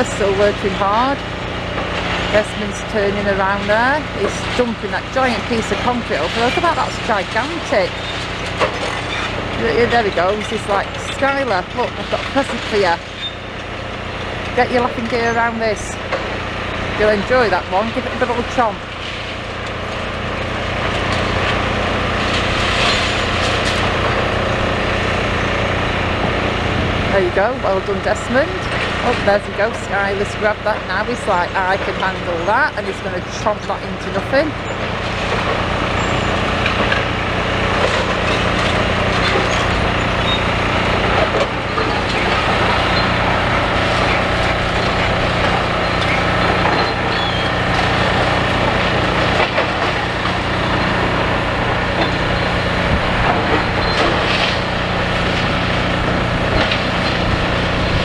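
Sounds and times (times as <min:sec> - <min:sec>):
excavator diesel engines running: 0:00.0 - 0:58.0
concrete crunching and cracking: 0:03.4 - 0:27.0, 0:27.6 - 0:58.0.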